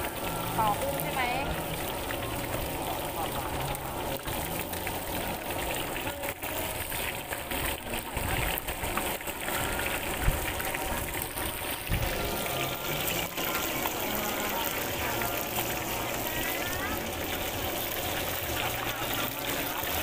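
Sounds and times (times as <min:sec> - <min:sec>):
deep-frying sizzle: 0:00.0 - 0:20.0.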